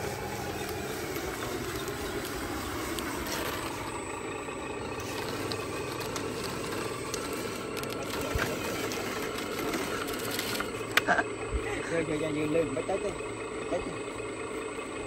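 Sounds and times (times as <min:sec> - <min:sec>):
toy truck motor running: 0:00.0 - 0:15.0.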